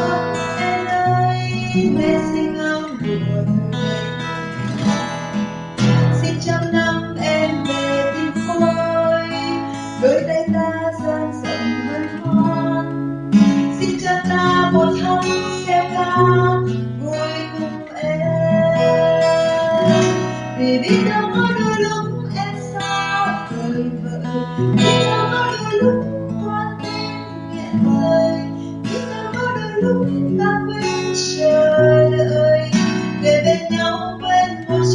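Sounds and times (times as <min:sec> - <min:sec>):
woman singing a pop ballad: 0:00.0 - 0:04.4, 0:05.9 - 0:34.9
strummed acoustic guitar: 0:00.0 - 0:34.9.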